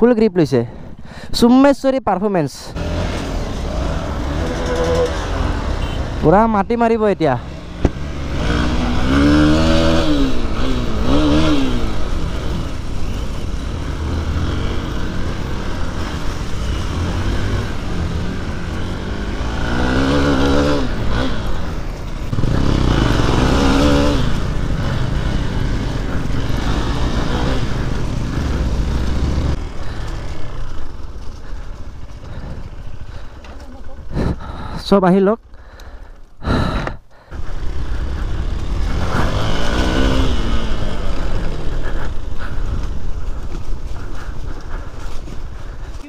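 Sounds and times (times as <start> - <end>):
low rumble of riding: 2.4 - 46.0
motorcycle engine revving: 2.6 - 34.7, 35.6 - 46.0.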